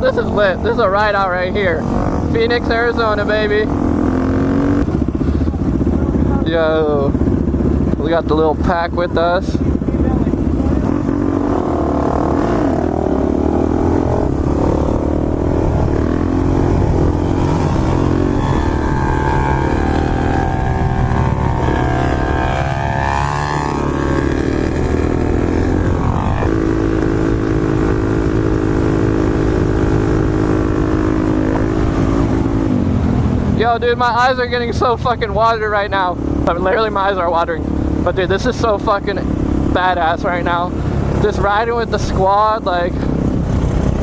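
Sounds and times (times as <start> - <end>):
motorcycle engines running: 0.0 - 44.0.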